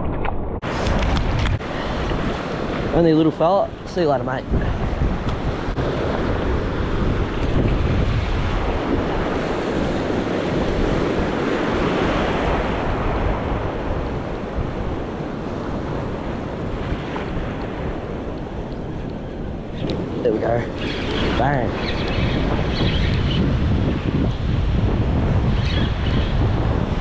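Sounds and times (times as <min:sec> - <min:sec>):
wind buffeting microphone: 0:00.0 - 0:27.0
waves breaking on sandy beach: 0:00.7 - 0:27.0.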